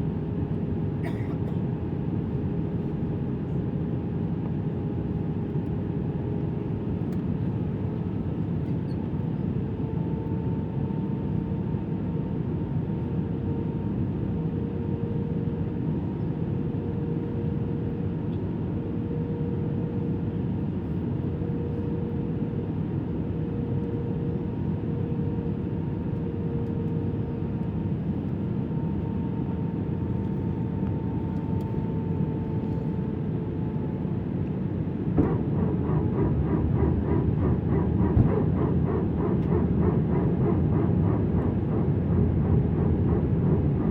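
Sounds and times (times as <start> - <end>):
aircraft cabin engine drone: 0.0 - 43.9.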